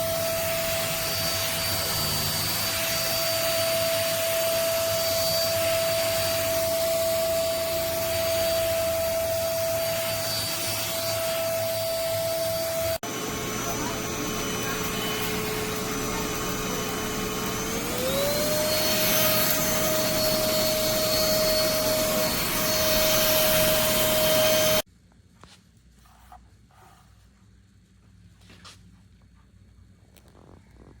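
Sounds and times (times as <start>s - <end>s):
stick vacuum motor running: 0.0s - 24.8s.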